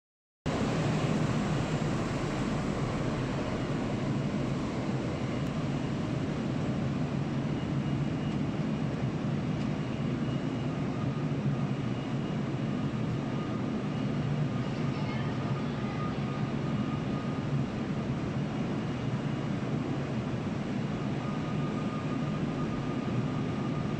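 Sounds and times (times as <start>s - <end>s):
factory background rumble: 0.5s - 23.9s.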